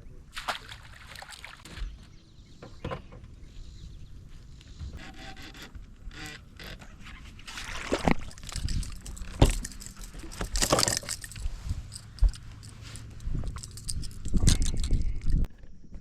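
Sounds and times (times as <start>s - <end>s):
knocks and scrapes in boat: 1.3s - 14.6s.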